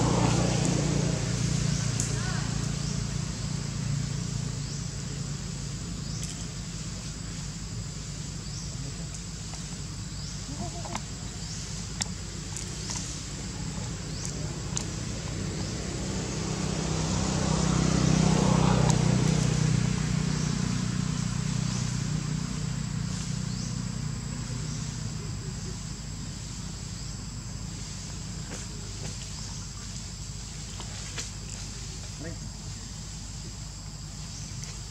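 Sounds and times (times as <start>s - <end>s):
vehicle engine passing by: 0.0s - 8.7s, 11.4s - 34.9s
high insect drone: 0.0s - 34.9s.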